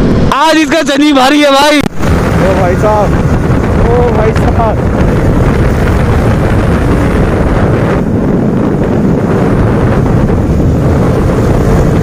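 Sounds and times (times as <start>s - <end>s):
wind rushing over microphone: 0.0s - 12.0s
motorcycle engine running: 2.0s - 12.0s.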